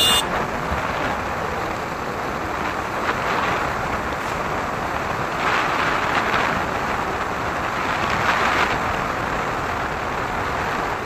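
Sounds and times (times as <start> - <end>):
motorcycle road noise: 0.0 - 11.0.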